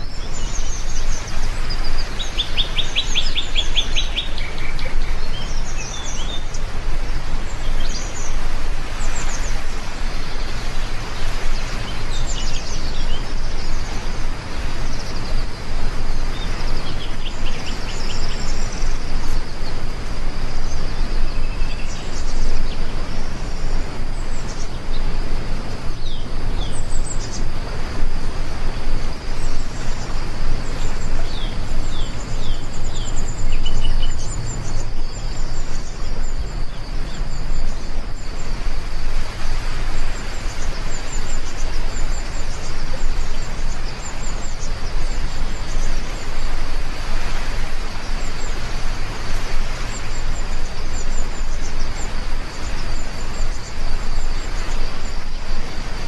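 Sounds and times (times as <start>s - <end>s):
birds chirping: 0.0s - 56.0s
heavy rain: 0.0s - 56.0s.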